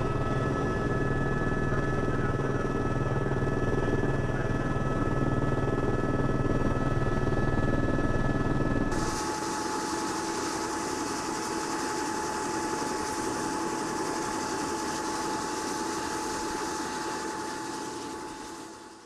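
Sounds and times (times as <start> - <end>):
helicopter engine whine: 0.0 - 19.0.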